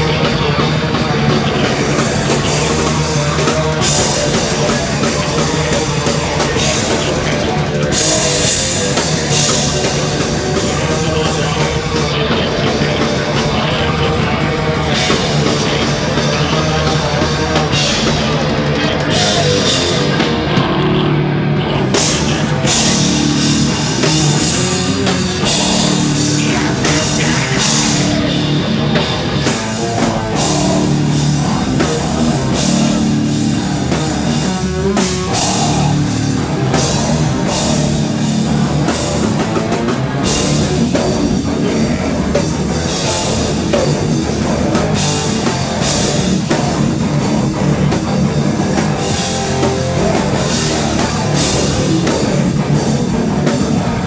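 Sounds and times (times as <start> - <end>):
drum kit beat: 0.0 - 54.0
electric guitars: 0.0 - 54.0.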